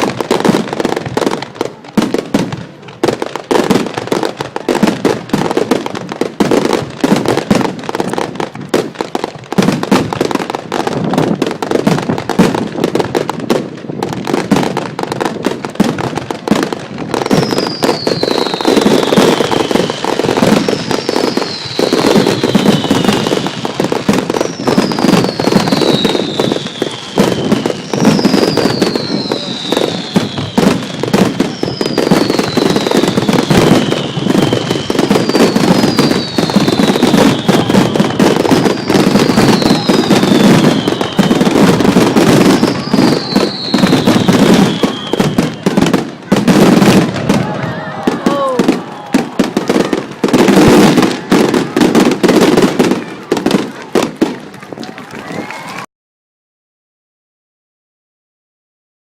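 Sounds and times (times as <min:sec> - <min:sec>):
fireworks whistles falling in pitch: 0:00.0 - 0:54.4
fireworks bangs and crackling: 0:00.0 - 0:55.9.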